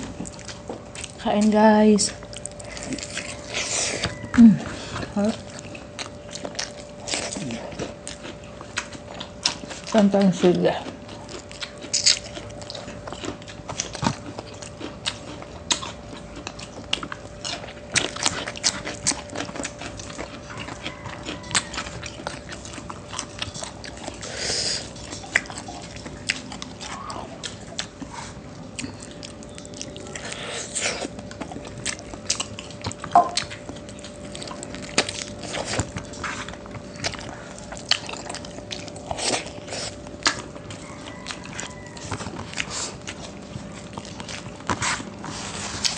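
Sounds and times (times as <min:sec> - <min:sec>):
chewing and biting food: 0:00.0 - 0:45.9
faint steady hum: 0:00.0 - 0:45.9.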